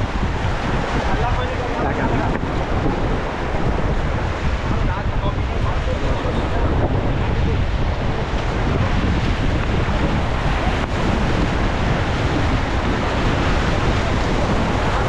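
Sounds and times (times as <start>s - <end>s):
rushing river water: 0.0s - 15.0s
wind buffeting microphone: 0.0s - 15.0s.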